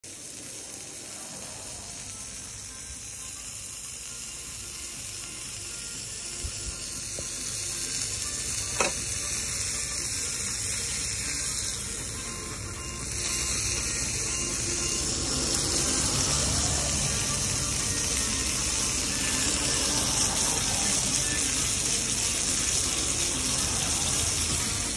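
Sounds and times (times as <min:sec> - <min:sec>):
patty sizzling on a griddle: 0:00.0 - 0:24.9.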